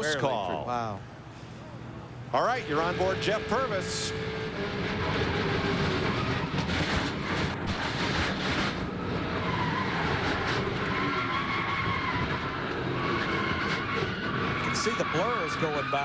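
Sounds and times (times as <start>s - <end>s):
race cars rushing past: 2.4s - 16.0s
tires squealing: 2.4s - 16.0s.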